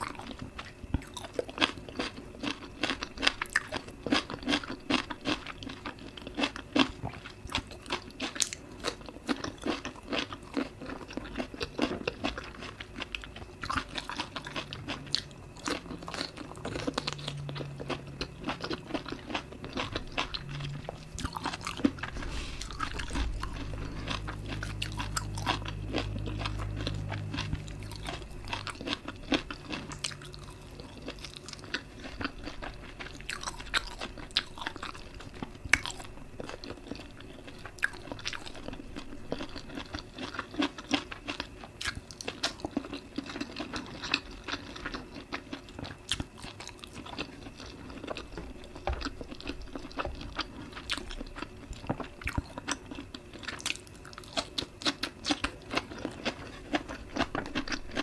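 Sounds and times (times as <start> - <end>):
crunching and wet chewing: 0.0 - 58.0.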